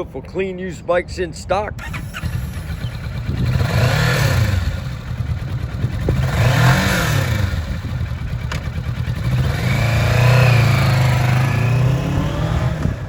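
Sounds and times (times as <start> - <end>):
motorcycle engine revving: 1.8 - 13.0.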